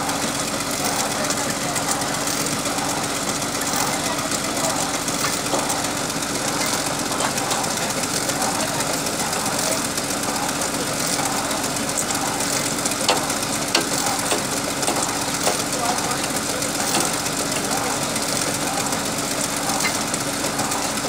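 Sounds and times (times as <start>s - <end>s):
drilling rig engine idling: 0.0s - 21.0s.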